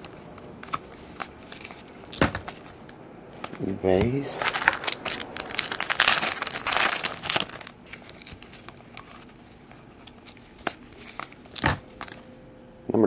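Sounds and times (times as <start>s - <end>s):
card pack wrapper crinkling: 0.0s - 12.3s.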